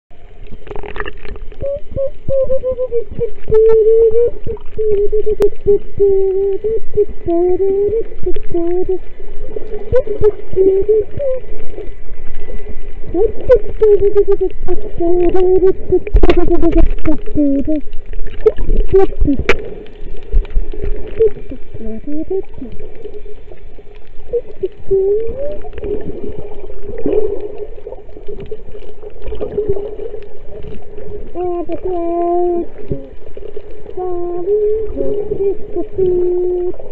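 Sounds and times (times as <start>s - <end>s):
woman singing underwater: 0.1s - 36.9s.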